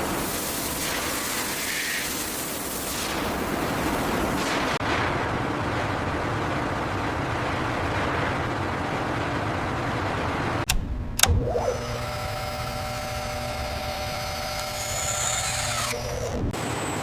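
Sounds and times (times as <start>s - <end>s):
industrial machinery noise: 0.0s - 17.0s
machine hum with constant tones: 0.0s - 17.0s.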